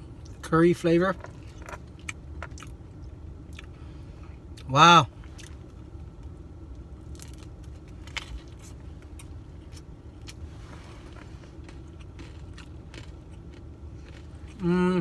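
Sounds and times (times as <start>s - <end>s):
low car cabin hum: 0.0s - 15.0s
person chewing crunchy pastry: 1.2s - 5.8s, 7.0s - 15.0s.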